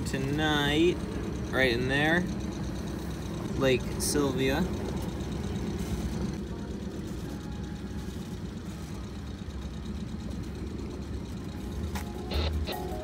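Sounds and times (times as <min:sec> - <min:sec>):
boat engines idling: 0:00.0 - 0:13.0.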